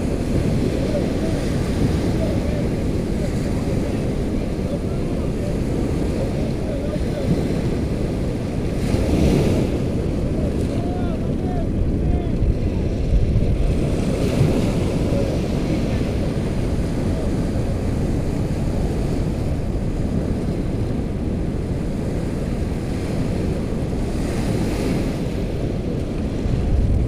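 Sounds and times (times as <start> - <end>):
small waves breaking on beach: 0.0 - 27.0
wind noise on microphone: 0.0 - 27.0.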